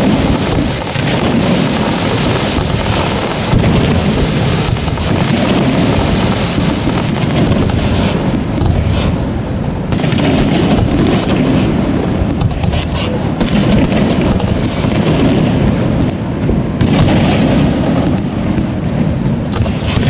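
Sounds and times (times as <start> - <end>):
fireworks cracks: 0.0 - 20.0
fireworks rumble: 0.0 - 20.0.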